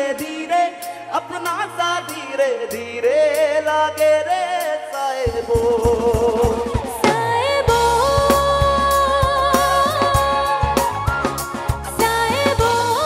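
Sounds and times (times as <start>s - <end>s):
live band music: 0.0s - 13.0s
drums and bass beat: 1.3s - 13.0s.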